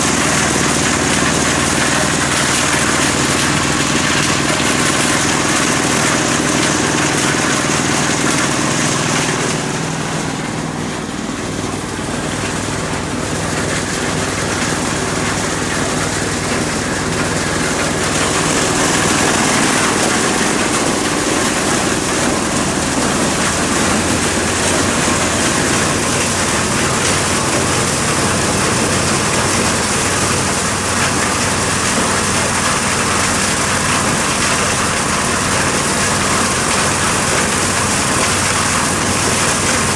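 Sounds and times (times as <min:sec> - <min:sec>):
corn sheller rushing and rattling: 0:00.0 - 0:39.9
engine humming: 0:00.0 - 0:39.9.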